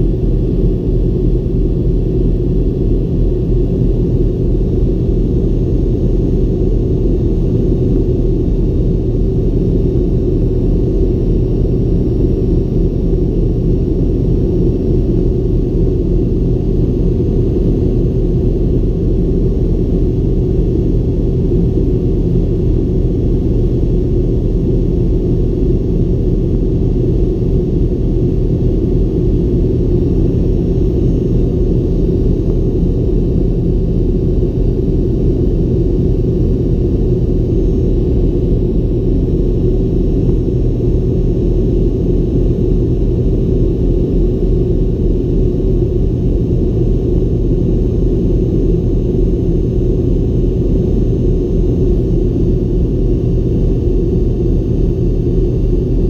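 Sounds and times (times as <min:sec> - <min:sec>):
faint steady whines: 0:00.0 - 0:56.0
jet engine cabin drone: 0:00.0 - 0:56.0.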